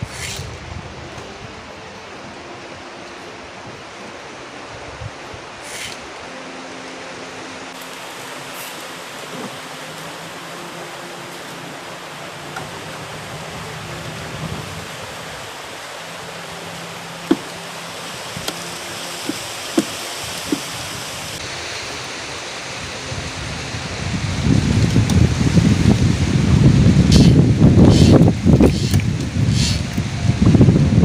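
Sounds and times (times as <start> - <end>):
steady rushing outdoor noise: 0.0 - 31.0.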